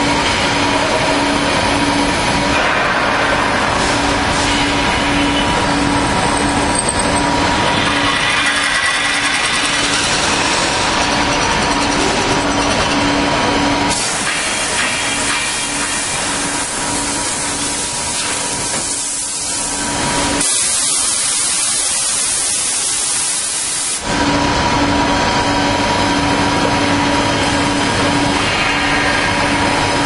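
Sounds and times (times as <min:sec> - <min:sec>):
drilling machine humming: 0:03.4 - 0:30.0.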